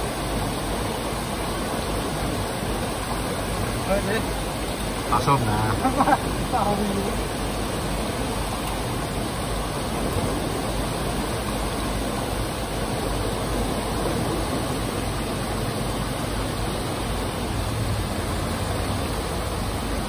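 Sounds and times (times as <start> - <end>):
water pouring over a dam: 0.0 - 20.0.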